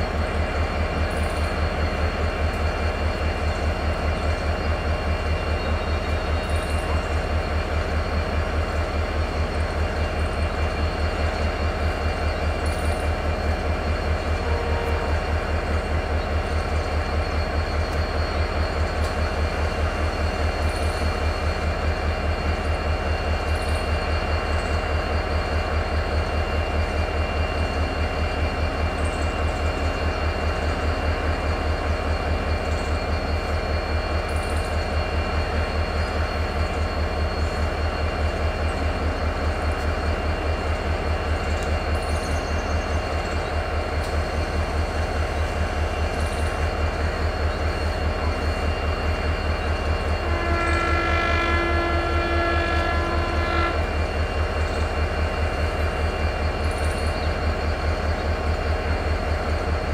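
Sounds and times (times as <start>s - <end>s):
train running with low pulsing: 0.0s - 59.9s.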